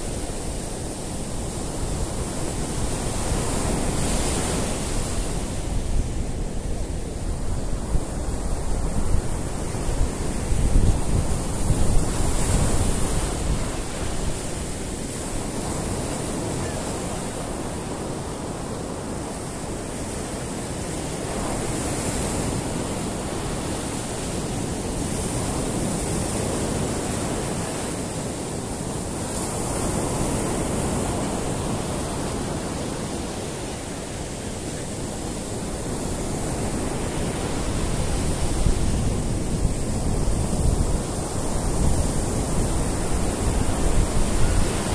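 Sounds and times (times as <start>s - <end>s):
wind buffeting microphone: 0.0s - 33.6s, 34.2s - 44.9s
sea surf breaking on beach: 0.0s - 44.9s.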